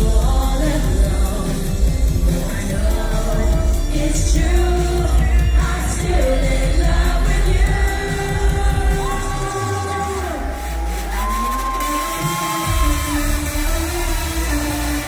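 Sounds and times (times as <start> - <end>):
heavy bass beat: 0.0 - 15.0
person singing: 0.0 - 15.0.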